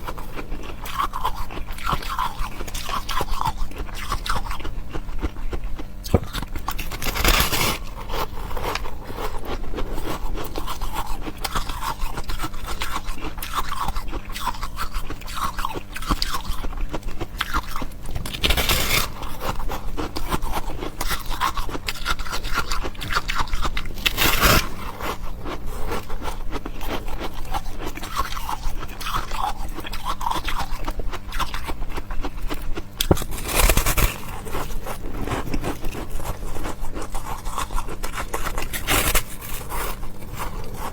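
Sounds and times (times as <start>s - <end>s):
chewing and crunching ice: 0.0s - 40.9s.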